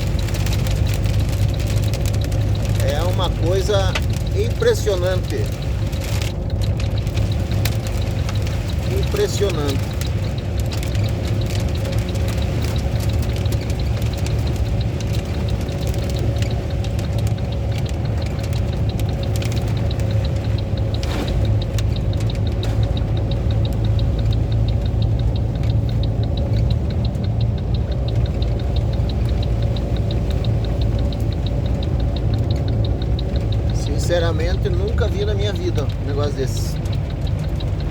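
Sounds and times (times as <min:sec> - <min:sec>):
hail clicking on vehicle body: 0:00.0 - 0:37.9.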